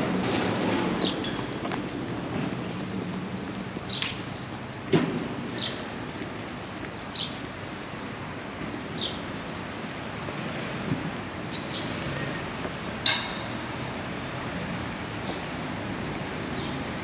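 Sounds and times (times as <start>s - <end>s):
distant traffic hum: 0.0s - 17.0s.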